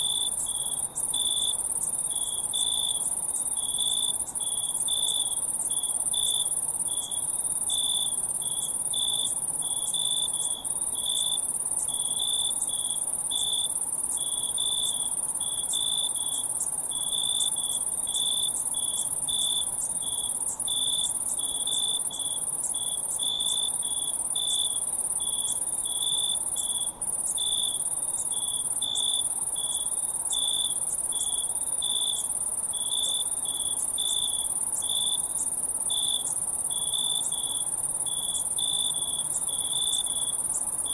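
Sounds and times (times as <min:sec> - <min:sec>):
crickets trilling: 0:00.0 - 0:40.9
low cricket chirp: 0:00.0 - 0:40.9.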